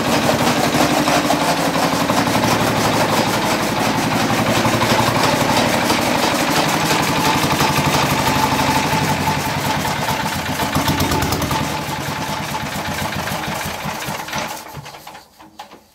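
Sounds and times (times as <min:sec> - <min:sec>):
diesel engine running: 0:00.0 - 0:14.4
chaff cutter chopping fodder: 0:00.0 - 0:15.2.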